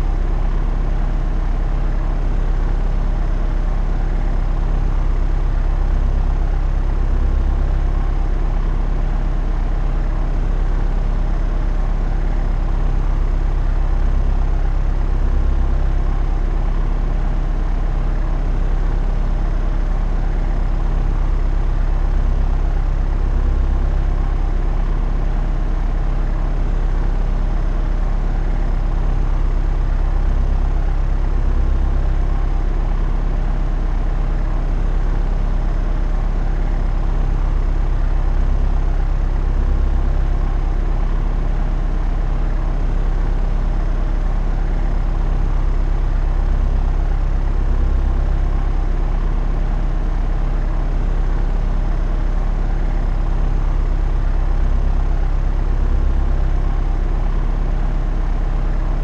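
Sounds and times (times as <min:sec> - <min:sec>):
propeller aeroplane drone: 0:00.0 - 0:59.0.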